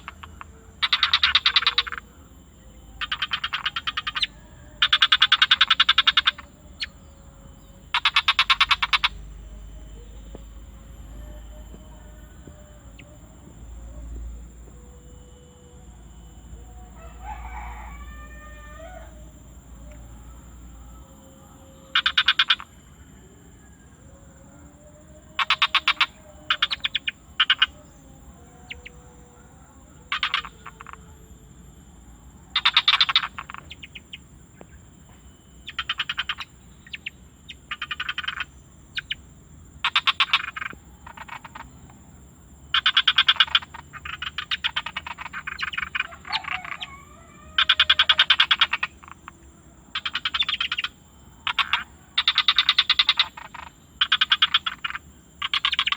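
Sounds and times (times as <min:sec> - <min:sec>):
frogs calling in pulsed trills: 0:00.0 - 0:55.9
steady high-pitched whine: 0:00.0 - 0:55.9.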